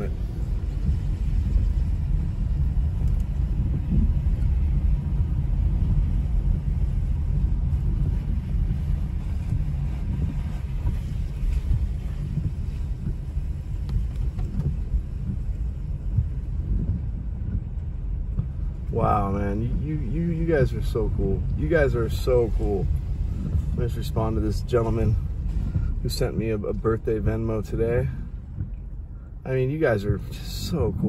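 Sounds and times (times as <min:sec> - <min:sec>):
tyre hiss on wet road: 0:00.0 - 0:17.2, 0:18.6 - 0:26.6
car engine and road rumble: 0:00.0 - 0:31.0.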